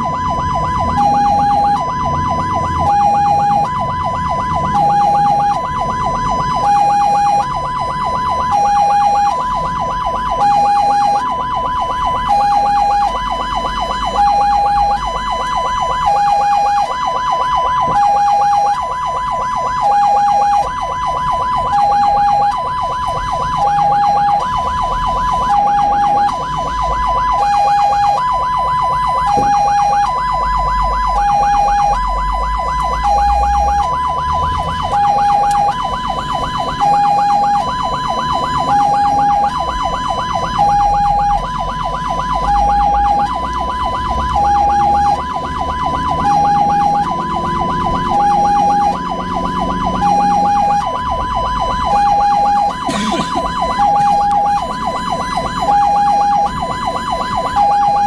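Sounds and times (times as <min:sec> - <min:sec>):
two-tone ambulance siren: 0:00.0 - 0:58.0
vehicle rumbling on road: 0:00.0 - 0:58.0.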